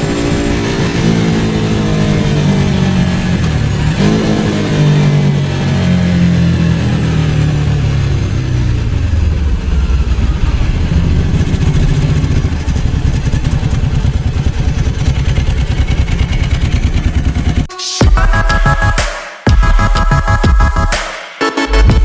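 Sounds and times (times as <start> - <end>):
motorcycle engine slowing: 0.0 - 17.7.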